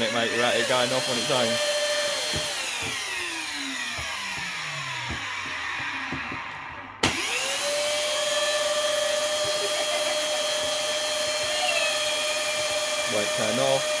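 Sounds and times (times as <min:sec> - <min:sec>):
stick vacuum motor whine: 0:00.0 - 0:14.0.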